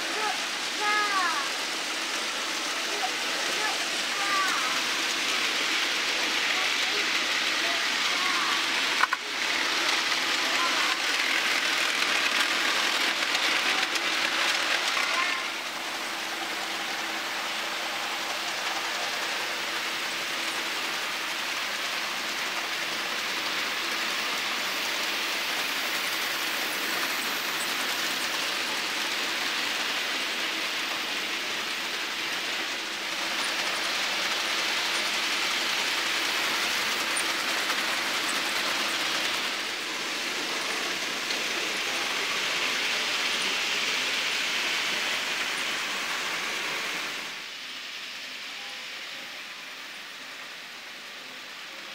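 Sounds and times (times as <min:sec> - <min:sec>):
model trains whirring on track: 0:00.0 - 0:51.9.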